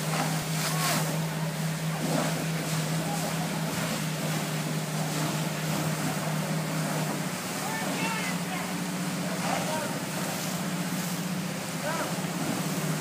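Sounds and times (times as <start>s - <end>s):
hose stream and steam hissing: 0.0s - 13.0s
pump engine droning: 0.0s - 13.0s.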